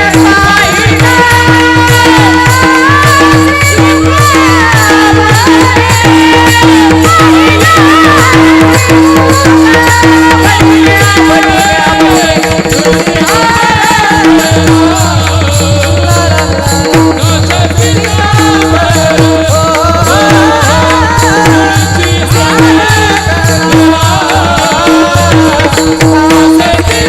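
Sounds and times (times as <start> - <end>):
jingling percussion: 0.0 - 27.0.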